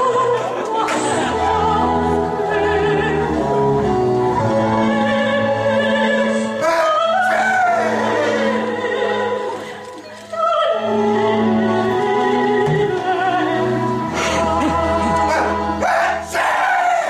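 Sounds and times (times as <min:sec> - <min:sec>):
operatic singing voice with vibrato: 0:00.0 - 0:17.0
orchestral accompaniment: 0:00.8 - 0:17.0.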